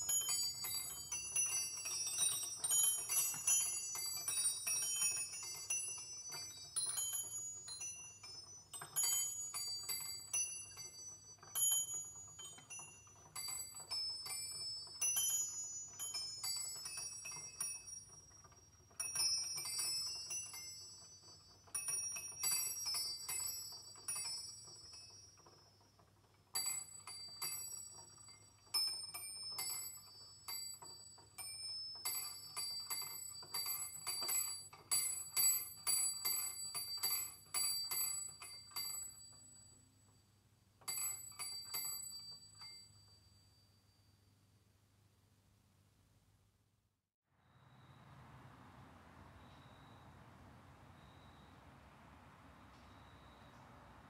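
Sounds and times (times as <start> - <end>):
small bells ringing: 0.0 - 44.6, 50.8 - 51.8, 52.6 - 54.0.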